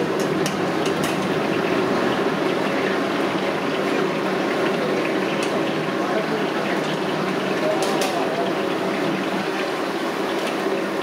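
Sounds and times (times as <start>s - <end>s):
sauce bubbling in a wok: 0.0s - 11.0s.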